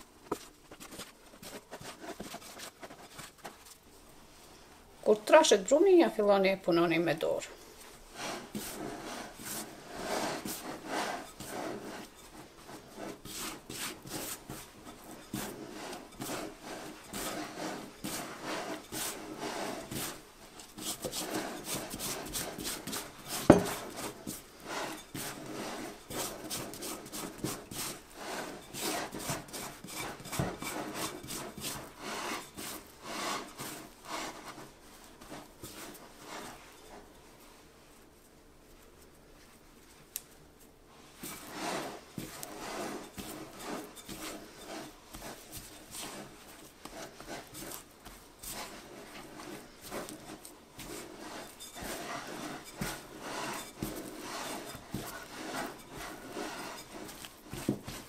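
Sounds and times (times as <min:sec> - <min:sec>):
hands kneading dough: 0:00.0 - 0:58.0.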